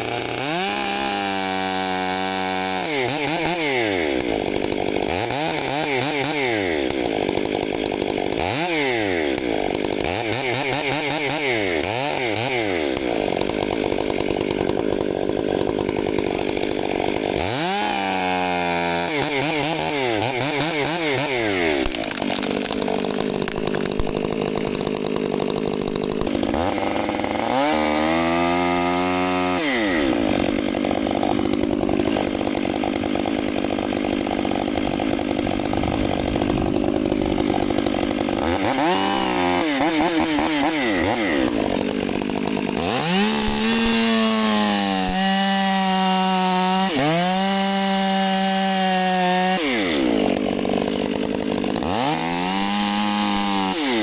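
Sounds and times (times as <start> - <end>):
chainsaw engine cutting: 0.0 - 54.0.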